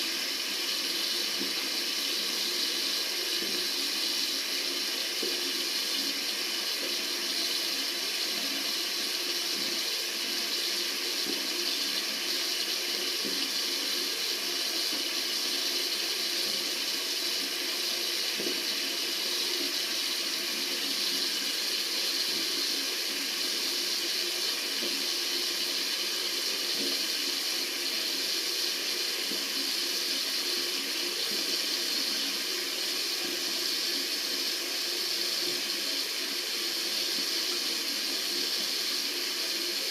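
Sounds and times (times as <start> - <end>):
water running from a tap: 0.0 - 39.9.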